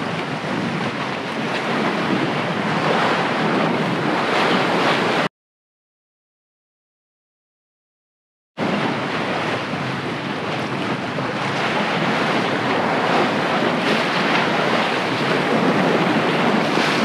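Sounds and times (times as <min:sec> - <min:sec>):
choppy sea waves: 0:00.0 - 0:05.3, 0:08.6 - 0:17.0
wind buffeting microphone: 0:00.0 - 0:05.3, 0:08.6 - 0:17.0.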